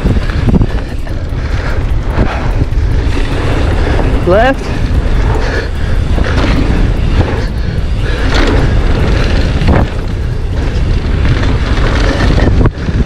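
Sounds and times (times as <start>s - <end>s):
bike knocks and rattles: 0.0s - 13.0s
bike tyres on dirt trail: 0.0s - 13.0s
wind rumble on microphone: 0.0s - 13.0s.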